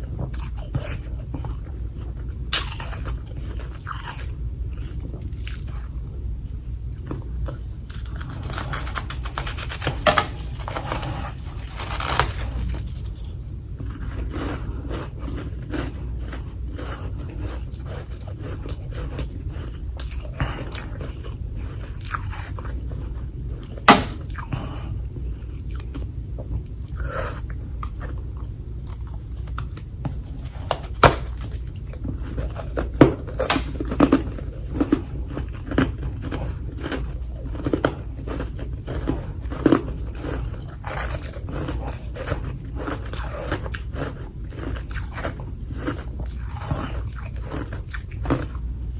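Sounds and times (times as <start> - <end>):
crunching and chewing ice: 0.0 - 48.9.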